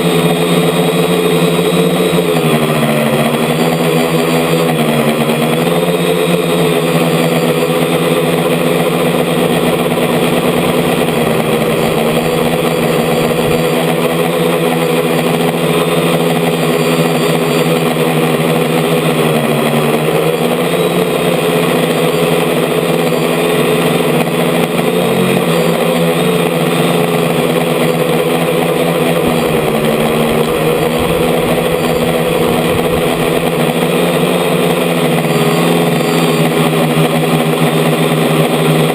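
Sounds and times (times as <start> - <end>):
drone motors and propellers: 0.0 - 38.9.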